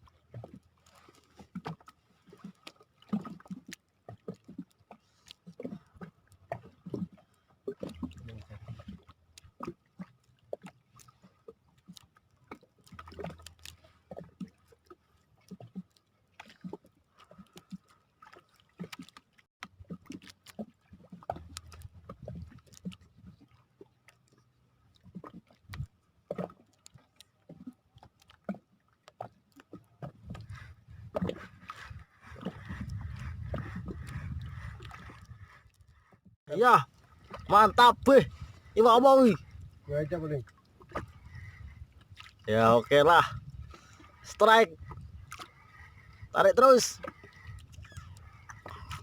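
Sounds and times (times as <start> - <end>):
small waves lapping against boat hull: 0.0 - 49.0.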